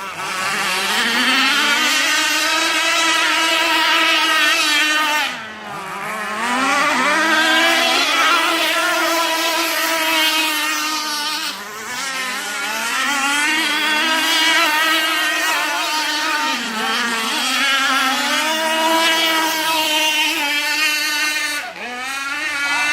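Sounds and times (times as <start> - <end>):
two-stroke engine at high revs: 0.0 - 22.9.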